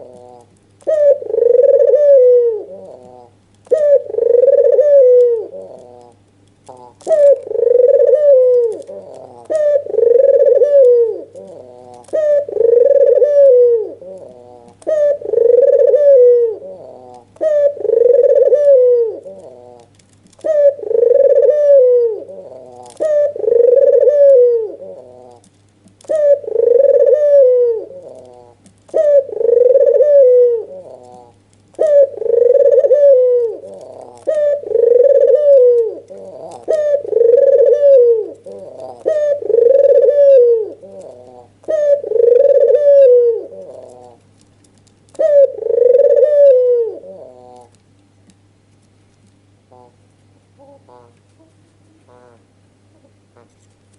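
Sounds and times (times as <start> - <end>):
dove cooing: 0.0 - 44.4, 45.1 - 47.8, 49.6 - 53.7
faint low hum: 0.0 - 53.9.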